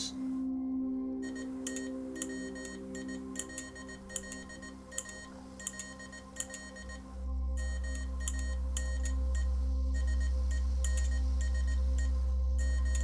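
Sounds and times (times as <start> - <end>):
synth drone: 0.0 - 13.0.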